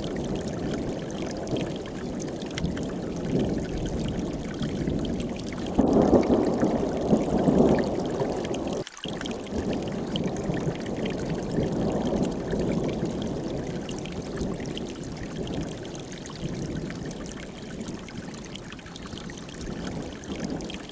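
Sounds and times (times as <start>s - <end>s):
stream rushing over rocks: 0.0s - 20.9s.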